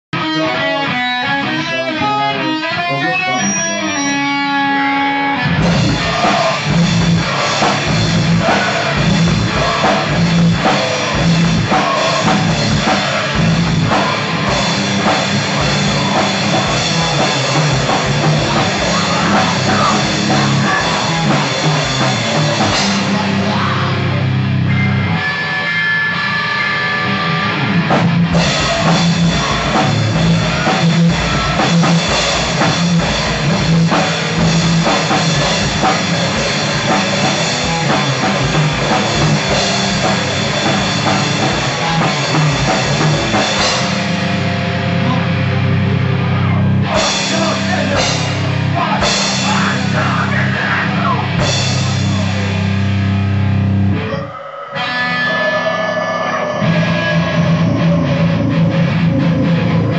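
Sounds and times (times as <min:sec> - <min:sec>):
rock music with drums and guitar: 0:00.1 - 0:59.9.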